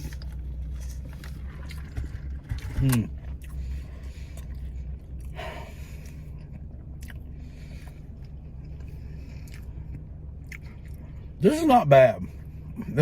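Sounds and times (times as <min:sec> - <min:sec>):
person chewing food: 0:00.0 - 0:11.4
low hum: 0:00.0 - 0:13.0.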